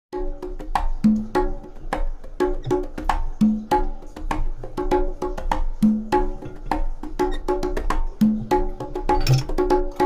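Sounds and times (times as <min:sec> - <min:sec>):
percussive background music: 0:00.1 - 0:10.0.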